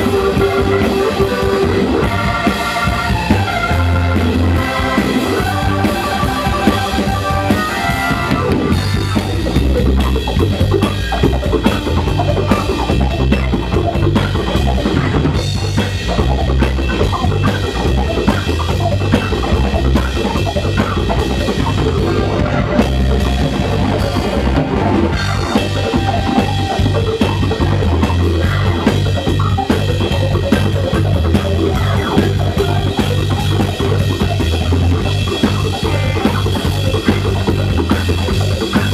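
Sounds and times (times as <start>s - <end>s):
drum kit bass drum and snare: 0.0s - 38.9s
electric bass: 0.0s - 38.9s
organ chords: 0.0s - 38.9s.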